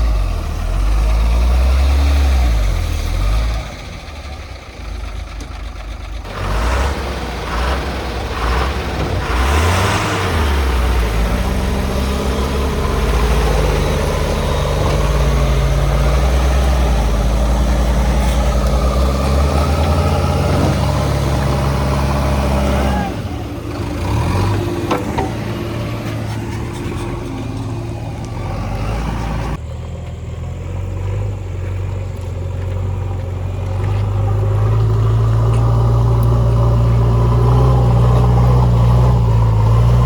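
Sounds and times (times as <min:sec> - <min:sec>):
heavy diesel engine under load: 0:00.0 - 0:40.0.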